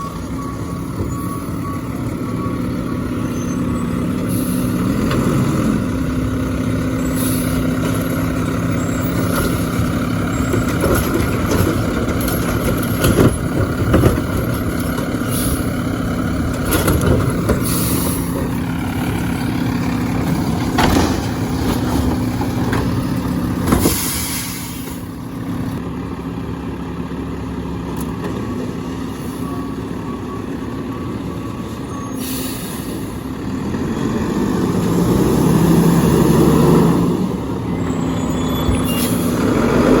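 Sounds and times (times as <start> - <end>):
garbage truck engine running: 0.0 - 40.0.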